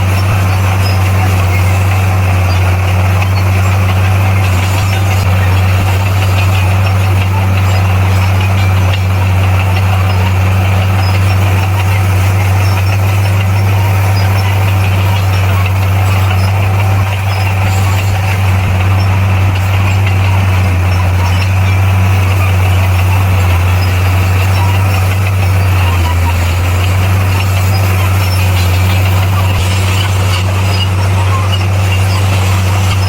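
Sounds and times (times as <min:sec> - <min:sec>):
bulldozer diesel engine drone: 0:00.0 - 0:33.0.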